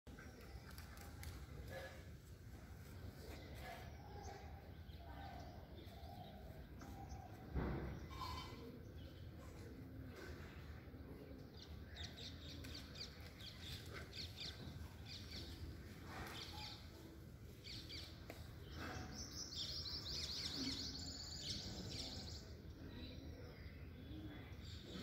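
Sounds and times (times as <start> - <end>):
birds chirping and twittering: 0.1 - 25.0
faint background noise: 0.1 - 25.0.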